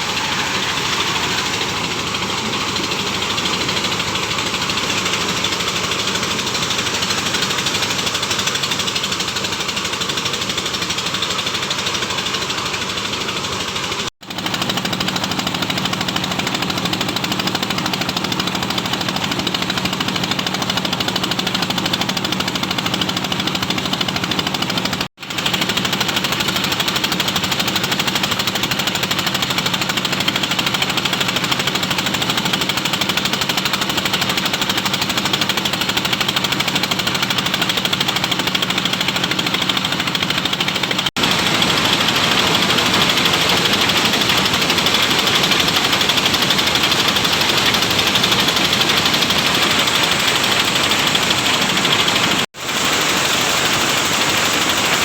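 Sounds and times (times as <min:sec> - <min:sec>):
corn sheller rattling: 0:00.0 - 0:55.0.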